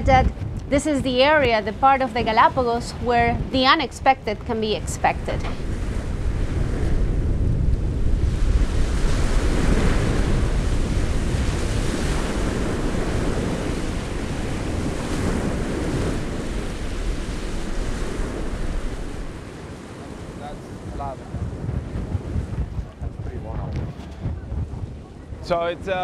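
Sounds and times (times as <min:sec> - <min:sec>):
sea rushing: 0:00.0 - 0:26.0
wind buffeting microphone: 0:00.0 - 0:26.0.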